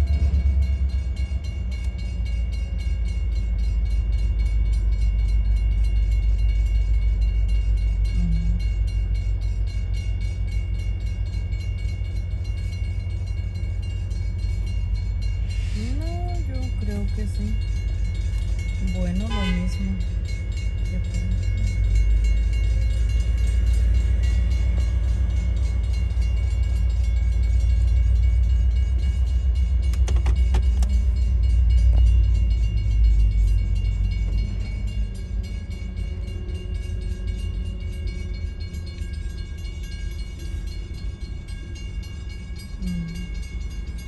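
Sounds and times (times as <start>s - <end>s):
crossing warning bell ringing: 0.0s - 44.0s
freight train rumble: 0.0s - 44.0s.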